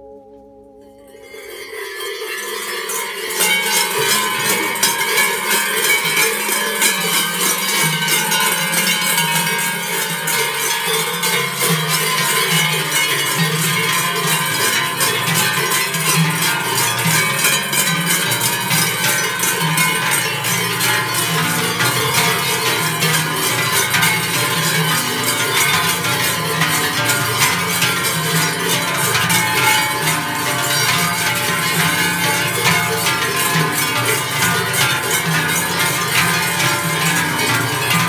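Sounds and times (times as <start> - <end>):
cowbells clanging: 1.1 - 38.0.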